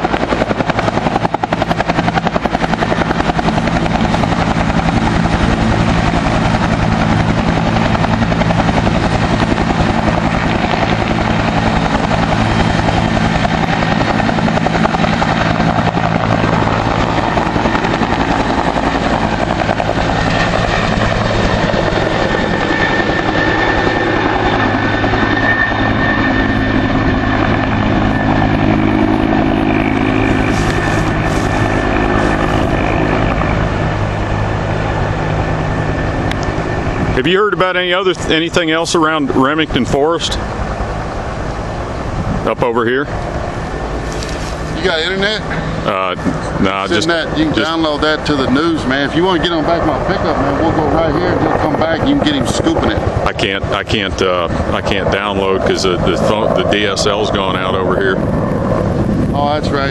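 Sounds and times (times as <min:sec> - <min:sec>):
helicopter engine drone: 0:00.0 - 0:59.9
helicopter rotor chop: 0:00.0 - 0:59.9
high whine: 0:00.0 - 0:59.9.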